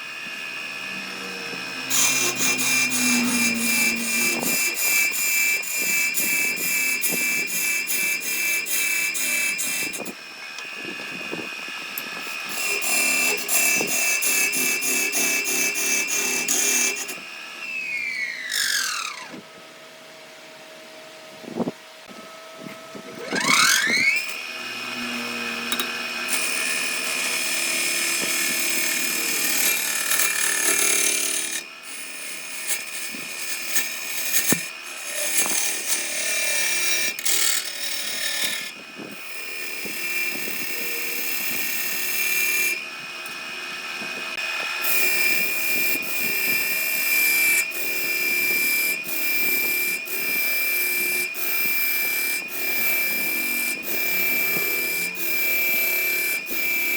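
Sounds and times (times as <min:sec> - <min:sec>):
power tool motor whining: 0:00.0 - 0:19.8, 0:21.4 - 0:56.9.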